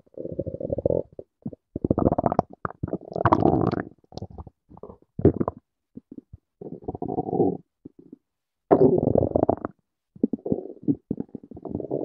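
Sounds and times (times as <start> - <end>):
stomach growling and gurgling: 0.0 - 12.0.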